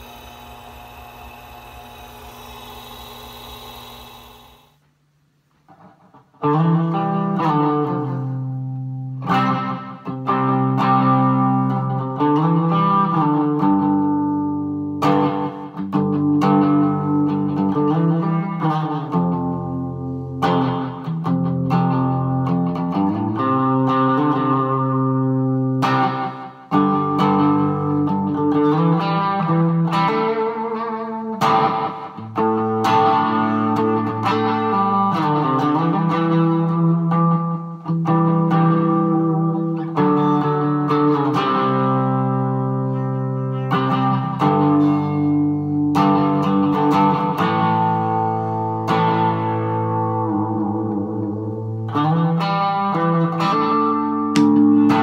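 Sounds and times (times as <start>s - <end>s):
electric guitar chords strummed: 5.7s - 55.0s.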